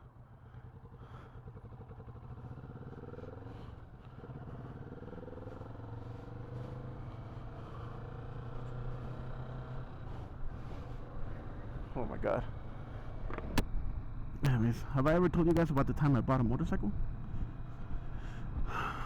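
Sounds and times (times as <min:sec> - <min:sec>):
motorcycle engine accelerating: 0:00.1 - 0:19.0.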